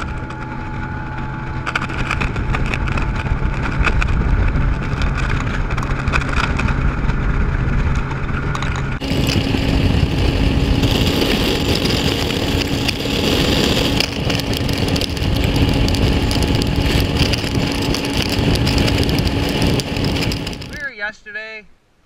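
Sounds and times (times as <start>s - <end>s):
outboard motor running: 0.0s - 20.8s
rushing wind: 0.0s - 21.0s.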